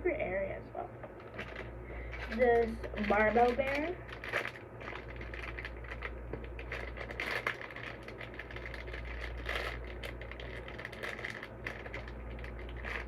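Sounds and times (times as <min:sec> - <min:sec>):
squishy toys being handled: 0:01.1 - 0:13.0.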